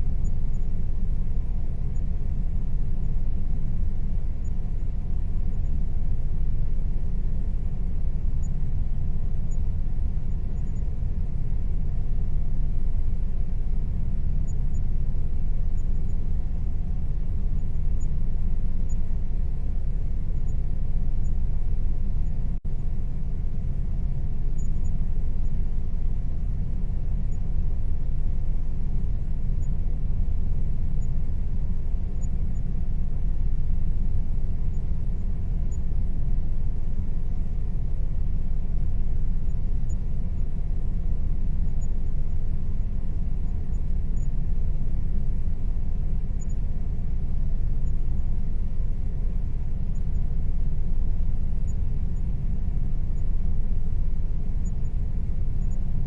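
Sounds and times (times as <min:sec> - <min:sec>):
air conditioner running: 0:00.0 - 0:56.0.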